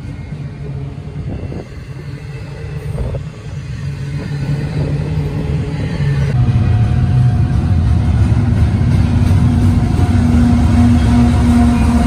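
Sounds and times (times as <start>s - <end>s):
train clanks: 0.0s - 12.0s
train wheels rumbling on rail: 0.0s - 12.0s.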